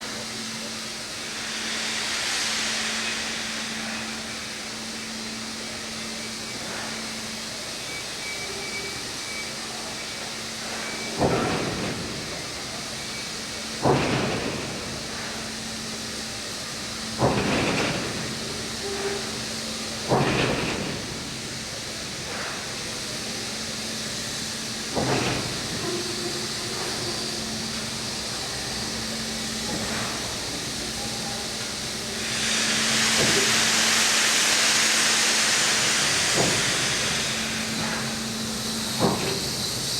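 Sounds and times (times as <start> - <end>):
steady hiss of steam: 0.0 - 39.9
loud sudden steam bursts: 0.1 - 7.7, 10.6 - 39.9.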